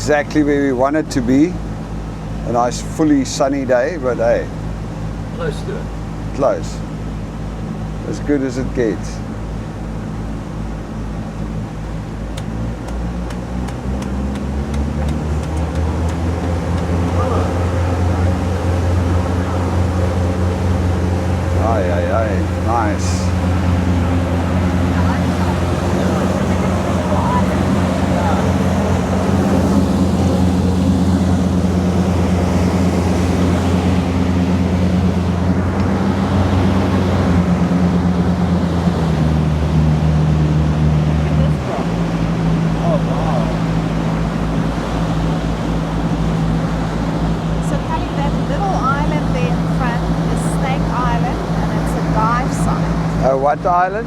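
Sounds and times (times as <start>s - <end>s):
boat engine droning: 0.0s - 54.0s
water rushing: 10.6s - 54.0s.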